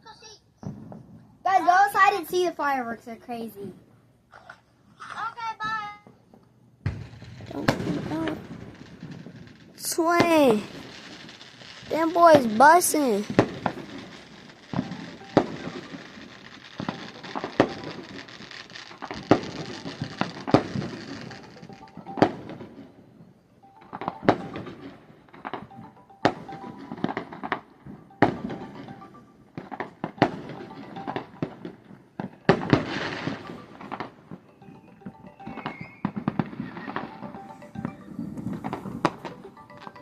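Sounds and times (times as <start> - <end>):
fireworks bangs: 0.6 - 2.4, 6.8 - 23.2, 23.8 - 40.0.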